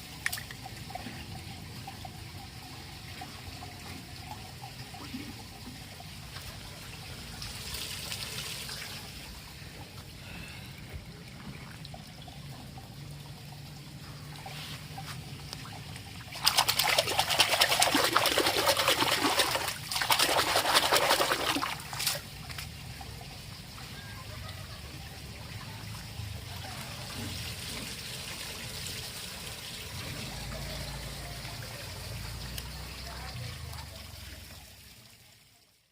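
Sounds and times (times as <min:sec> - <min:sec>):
water pouring or spraying: 0:00.0 - 0:35.4
water trickling: 0:00.0 - 0:35.8.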